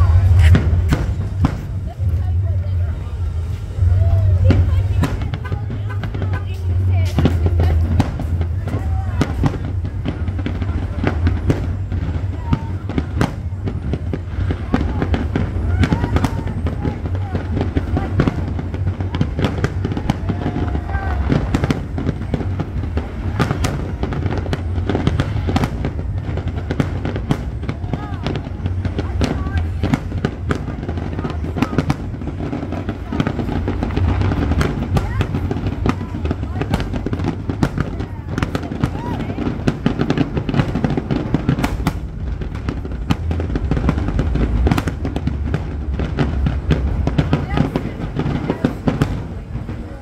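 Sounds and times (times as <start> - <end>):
deep rumble: 0.0 - 50.0
fireworks booming and cracking: 0.0 - 50.0.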